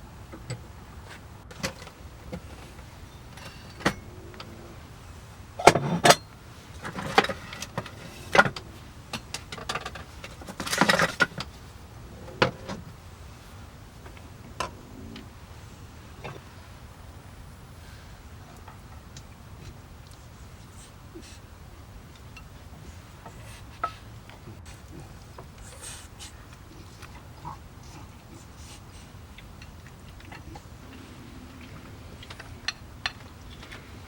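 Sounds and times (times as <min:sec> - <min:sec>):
scraping rustle: 0:00.0 - 0:34.0.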